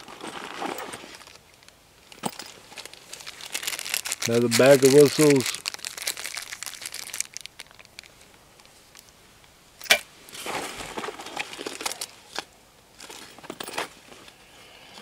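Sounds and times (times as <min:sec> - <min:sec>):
plastic bags crinkling: 0:00.0 - 0:09.1, 0:10.5 - 0:14.2.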